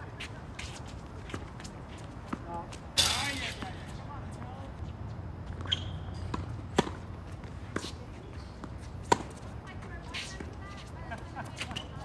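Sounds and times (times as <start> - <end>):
soft brushing noise: 0.0 - 5.2, 6.3 - 12.0.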